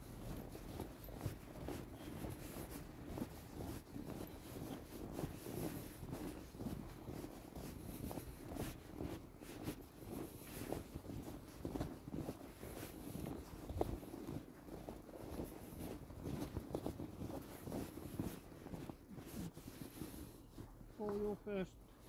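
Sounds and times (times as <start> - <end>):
footsteps crunching in snow: 0.0 - 22.0.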